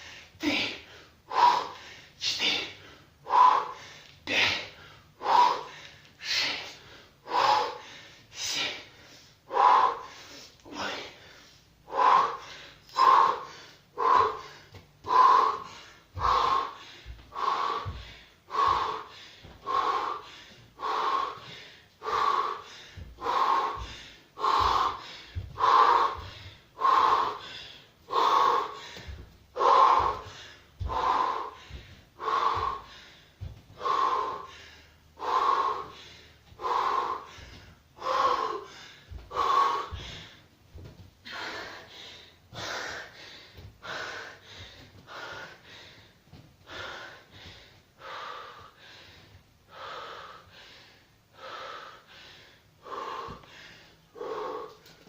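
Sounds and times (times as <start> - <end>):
person breathing hard: 0.0 - 55.0.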